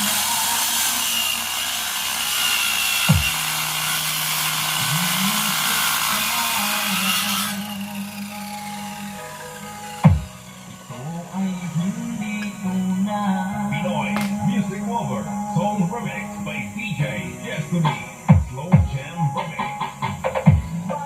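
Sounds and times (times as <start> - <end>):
electronic music hiss layer: 2.4 - 21.0.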